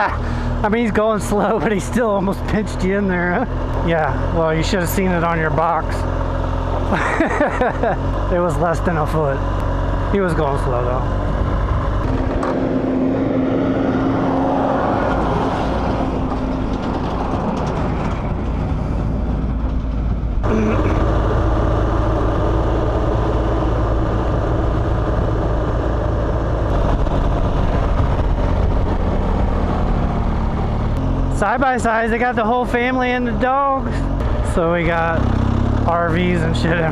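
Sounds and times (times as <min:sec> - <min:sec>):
motorcycle engine hum: 0:00.0 - 0:36.9
wind and road noise: 0:00.0 - 0:36.9.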